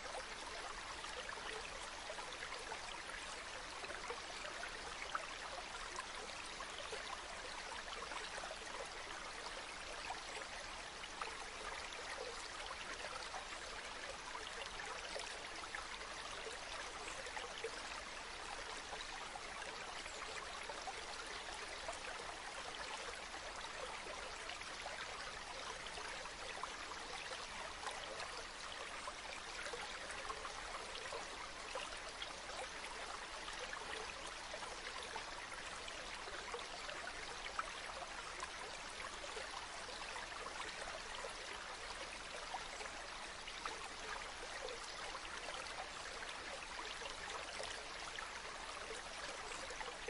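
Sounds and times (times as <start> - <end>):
stream trickling over stones: 0.0 - 50.0.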